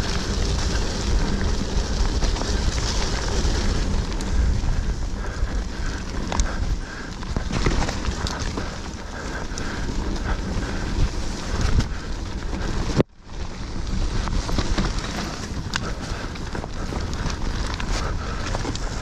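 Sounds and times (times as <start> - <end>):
bike clicking and knocking: 0.0 - 13.1, 13.8 - 19.0
bike tyres rolling on dirt: 0.0 - 19.0
wind buffeting microphone: 0.0 - 19.0.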